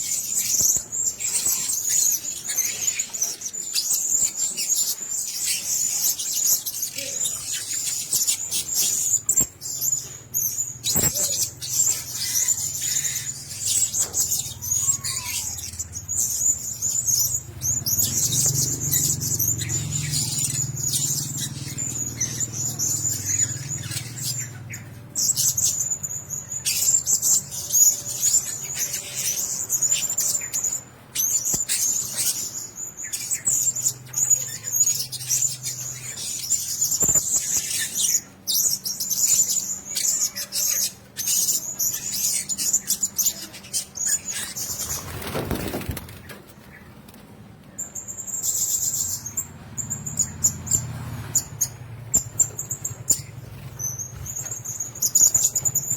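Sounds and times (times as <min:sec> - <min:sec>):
parrots chirping: 0:00.0 - 0:46.9, 0:47.8 - 0:55.9.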